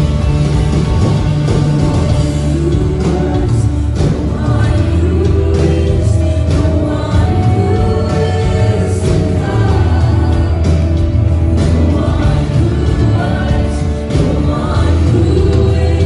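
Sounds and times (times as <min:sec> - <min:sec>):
gospel choir singing: 0:00.0 - 0:16.0
instrumental backing with strong bass: 0:00.0 - 0:16.0.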